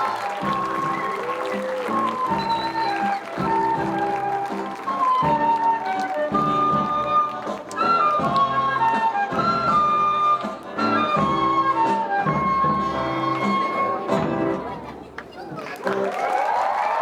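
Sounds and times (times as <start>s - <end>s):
flute melody: 0.0s - 14.8s.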